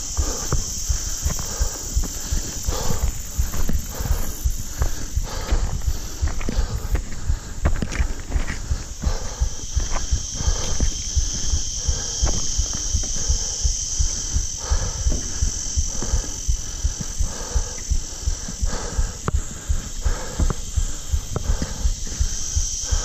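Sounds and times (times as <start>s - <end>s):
footsteps crunching on rocky path: 0.0s - 23.0s
footsteps on timber deck: 0.0s - 23.0s
insects buzzing: 0.0s - 23.0s.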